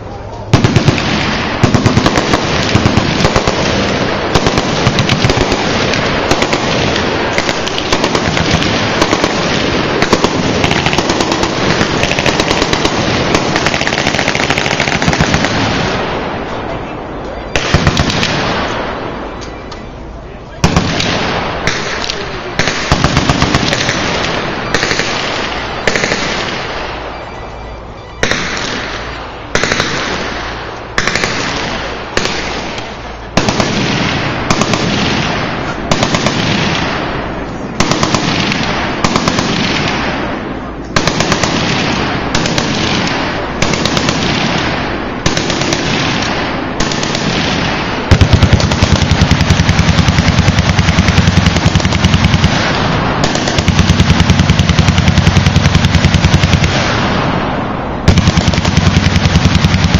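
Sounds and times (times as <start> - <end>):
machine guns firing bursts: 0.5 - 16.1, 17.5 - 18.7, 20.6 - 40.3, 41.0 - 57.4, 58.0 - 59.9.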